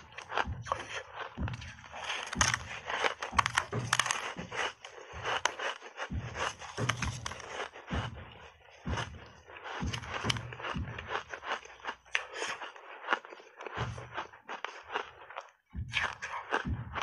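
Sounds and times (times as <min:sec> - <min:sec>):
ice crunching while chewed: 0:00.0 - 0:17.0.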